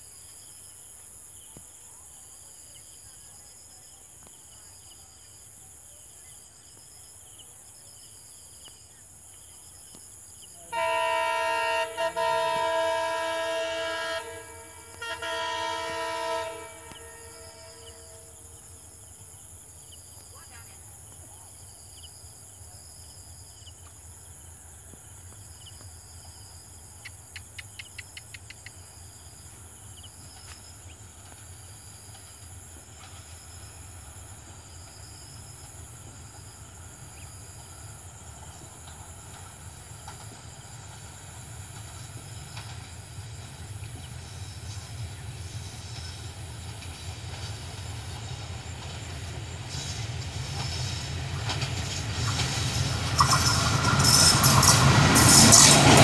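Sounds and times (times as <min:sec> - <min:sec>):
insects chirping: 0:00.0 - 0:56.0
train rumbling: 0:09.2 - 0:56.0.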